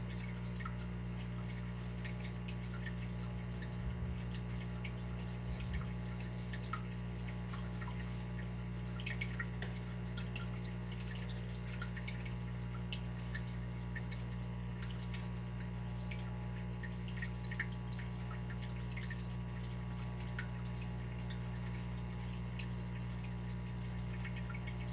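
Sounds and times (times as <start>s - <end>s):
water dripping: 0.0s - 24.9s.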